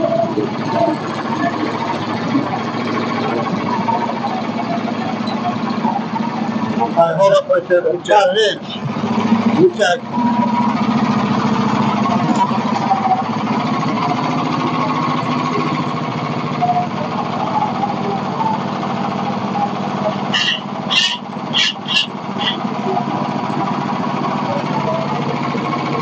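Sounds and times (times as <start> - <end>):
sawmill gas engine running: 0.0 - 26.0.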